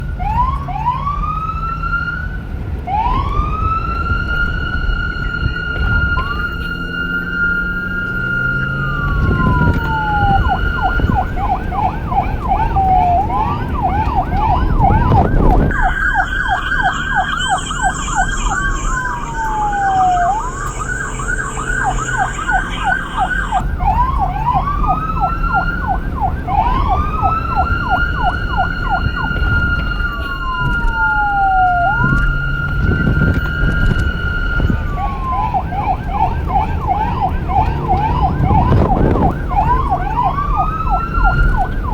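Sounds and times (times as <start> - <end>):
low vehicle rumble: 0.0 - 41.9
police siren wailing and yelping: 0.0 - 41.9.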